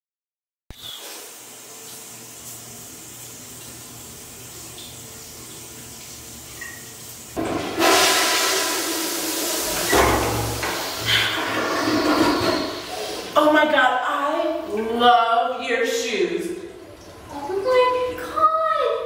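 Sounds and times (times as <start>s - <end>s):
toilet flushing: 0.7s - 19.0s.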